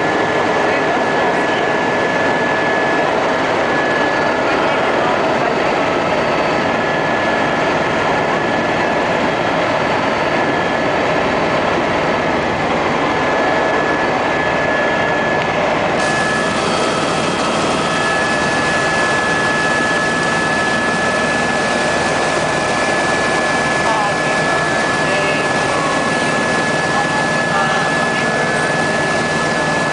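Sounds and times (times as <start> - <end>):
helicopter engine and rotor: 0.0 - 29.9
high whine: 0.0 - 29.9.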